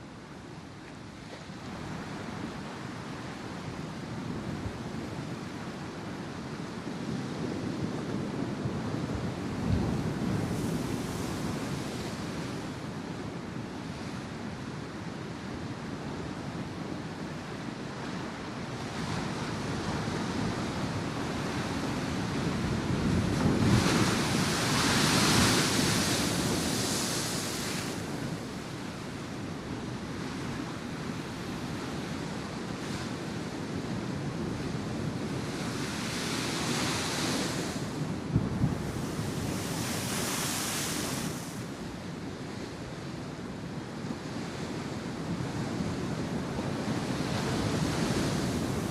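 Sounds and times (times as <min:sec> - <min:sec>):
ocean surf washing on shore: 0:00.0 - 0:48.9.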